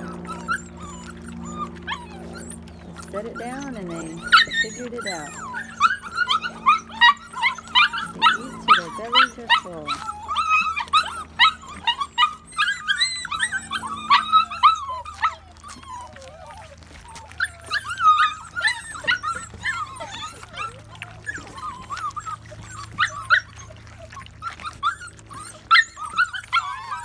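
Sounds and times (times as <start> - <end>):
puppies lapping and chewing: 0.0 - 27.0
puppies squeaking and whimpering: 0.0 - 27.0.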